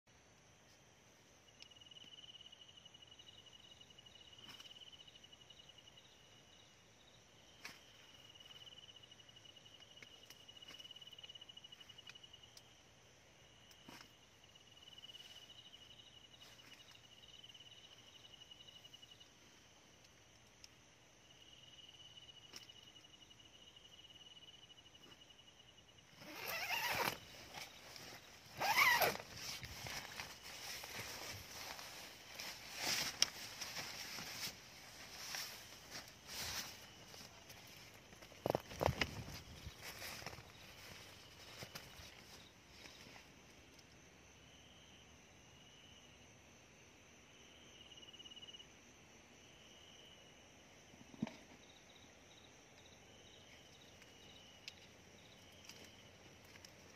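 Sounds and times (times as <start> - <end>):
cricket-like trill: 1.3 - 56.9.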